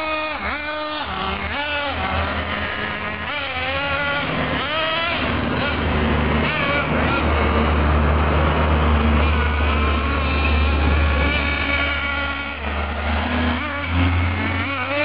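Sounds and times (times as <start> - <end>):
rc truck engine buzzing: 0.0 - 15.0.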